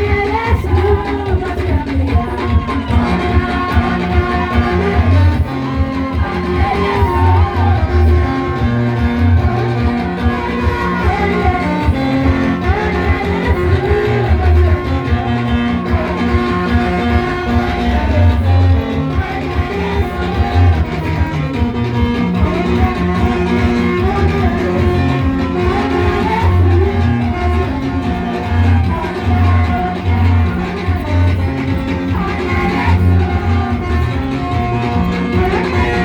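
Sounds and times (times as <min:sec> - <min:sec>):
praise music with guitar and bass: 0:00.0 - 0:36.0.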